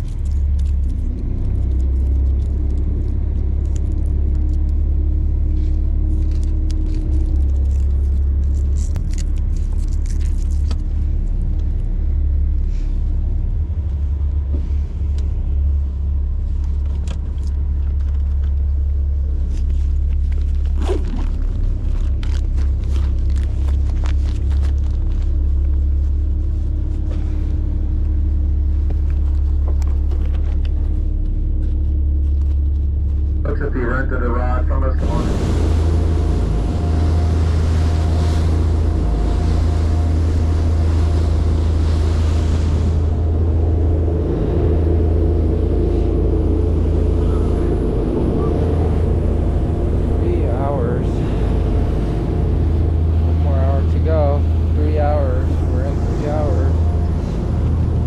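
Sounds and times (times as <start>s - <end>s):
boat engines rumbling: 0.0s - 58.0s.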